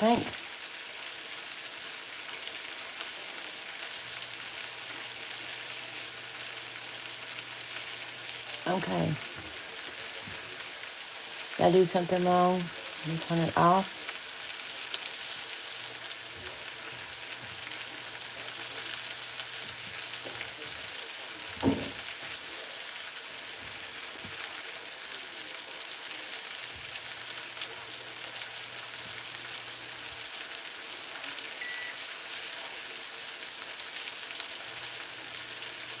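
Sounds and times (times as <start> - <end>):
cabbage sizzling in a skillet: 0.0 - 36.0.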